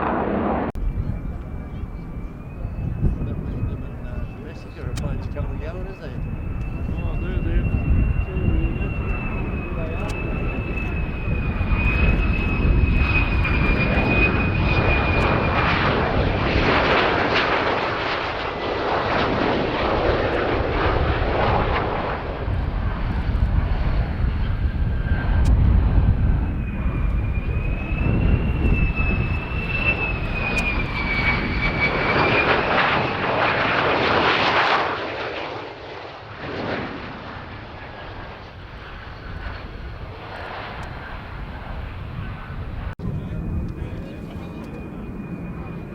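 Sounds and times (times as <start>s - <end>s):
high jet whine: 0.0s - 45.9s
jet engine roar: 0.0s - 45.9s.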